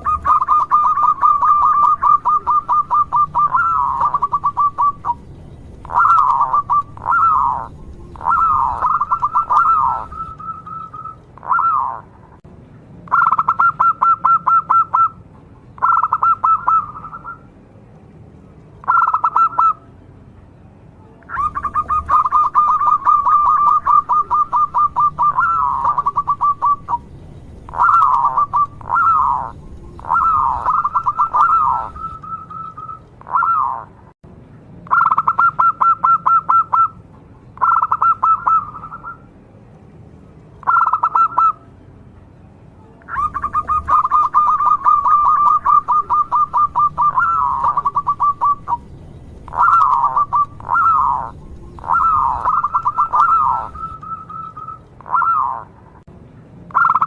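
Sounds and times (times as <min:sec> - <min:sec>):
dove cooing: 0:00.0 - 0:12.1, 0:13.1 - 0:15.2, 0:15.8 - 0:17.4, 0:18.8 - 0:19.8, 0:21.3 - 0:27.1, 0:27.7 - 0:34.0, 0:34.9 - 0:37.0, 0:37.6 - 0:39.3, 0:40.6 - 0:41.6, 0:43.1 - 0:55.8.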